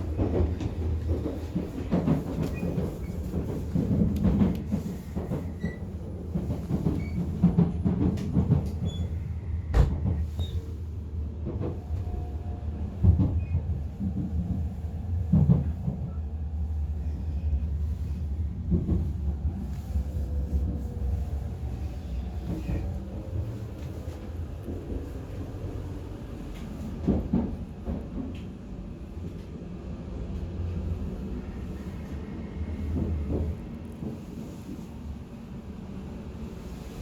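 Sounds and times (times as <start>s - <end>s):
train running rumble: 0.0s - 37.0s.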